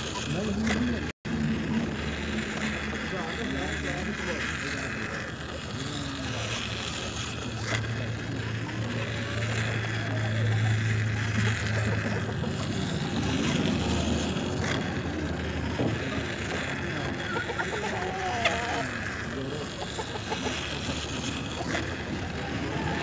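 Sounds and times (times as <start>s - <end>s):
toy train motor humming: 0.0s - 23.0s.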